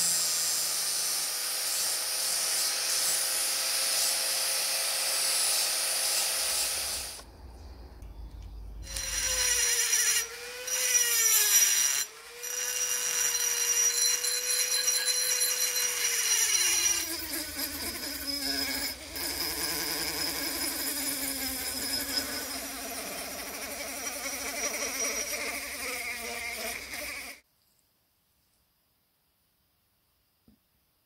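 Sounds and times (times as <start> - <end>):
rotary tool grinding metal: 0.0 - 7.2, 8.8 - 27.4.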